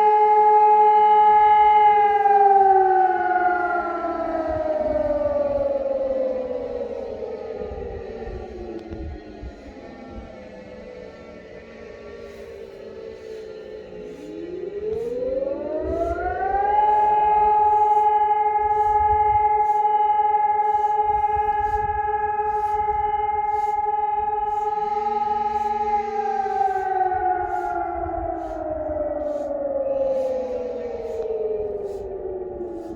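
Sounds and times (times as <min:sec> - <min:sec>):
warning siren: 0:00.0 - 0:32.9.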